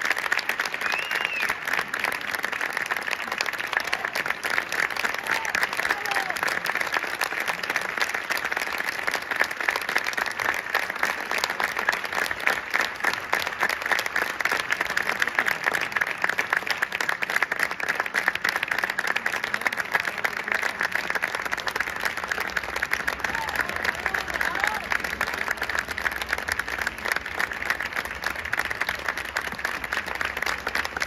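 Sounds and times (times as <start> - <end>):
audience applauding: 0.0 - 31.0.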